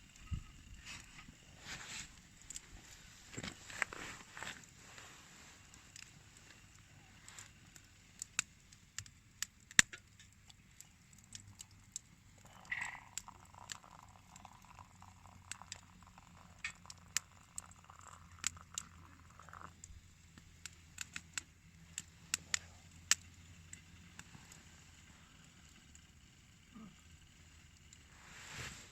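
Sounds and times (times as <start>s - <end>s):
faint hiss: 0.0s - 28.9s
campfire crackling and popping: 0.1s - 28.1s.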